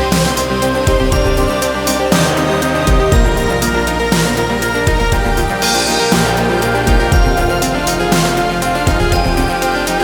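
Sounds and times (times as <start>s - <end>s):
heavy bass hits: 0.0s - 9.6s
electronic music: 0.0s - 10.0s.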